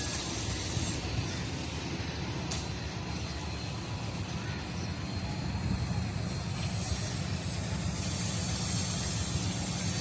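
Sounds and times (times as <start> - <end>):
diesel locomotive engine rumbling: 0.0 - 10.0.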